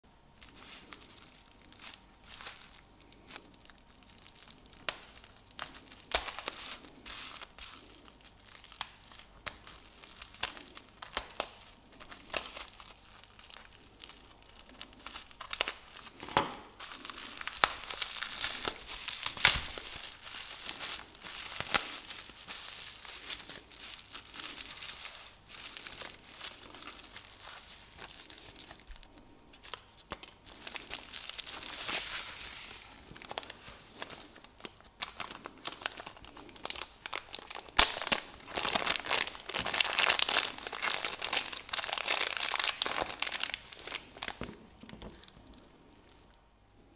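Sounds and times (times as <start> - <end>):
wrapping material crinkling and tearing: 0.2 - 46.9.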